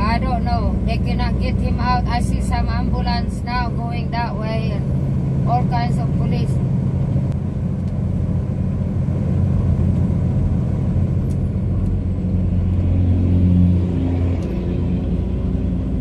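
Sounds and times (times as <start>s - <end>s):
diesel truck engine drone: 0.0s - 16.0s
road noise: 0.0s - 16.0s.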